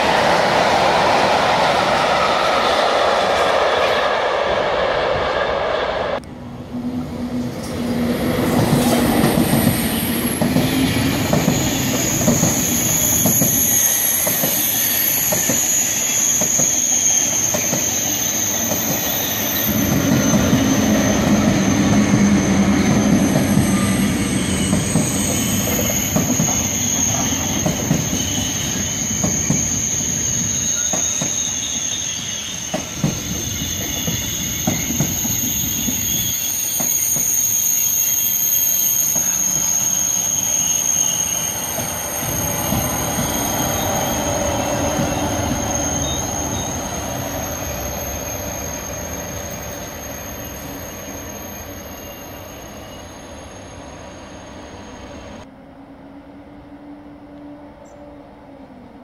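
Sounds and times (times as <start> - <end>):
high-speed train wheels clattering: 0.0 - 37.6, 39.0 - 52.6
freight train rolling past: 0.0 - 59.0.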